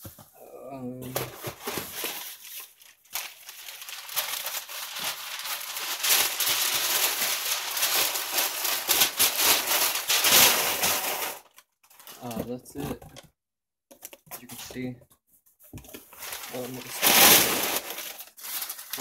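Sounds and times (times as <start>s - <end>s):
cardboard box and paper rustling: 1.0s - 13.2s, 15.7s - 19.0s.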